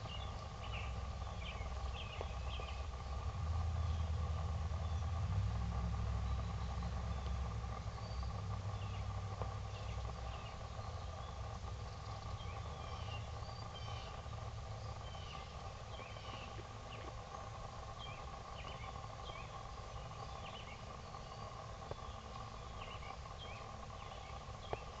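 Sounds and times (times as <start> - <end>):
constant hum: 0.0 - 25.0
steady low rumble: 0.0 - 25.0.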